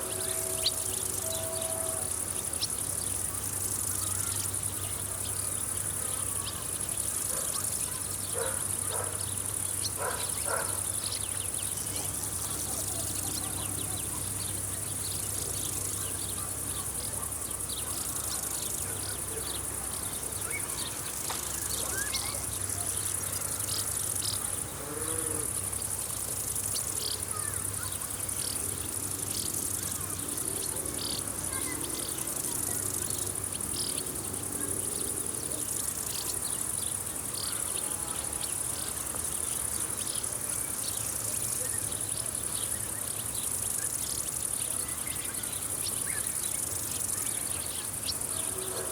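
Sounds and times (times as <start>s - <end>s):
crickets chirring: 0.0s - 48.9s
faint distant bird calls: 0.0s - 48.9s.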